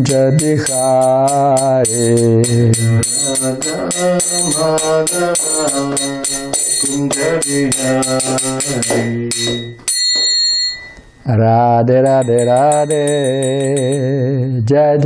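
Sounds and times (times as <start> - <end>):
hand cymbals ringing: 0.0 - 14.7.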